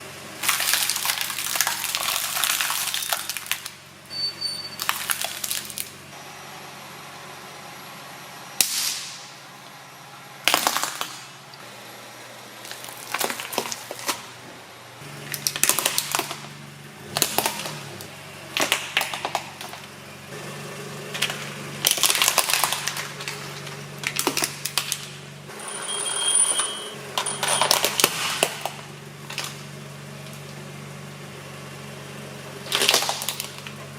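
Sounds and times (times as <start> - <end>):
car engine hum: 4.8 - 33.9.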